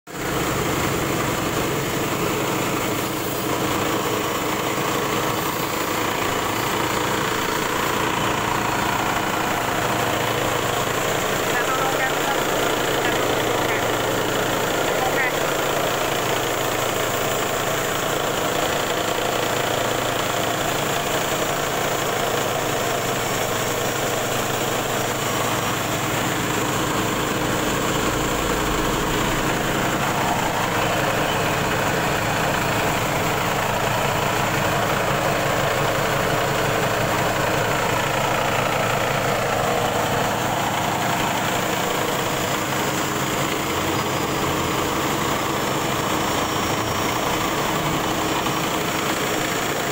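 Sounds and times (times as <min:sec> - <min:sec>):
rice huller running: 0:00.1 - 0:49.9.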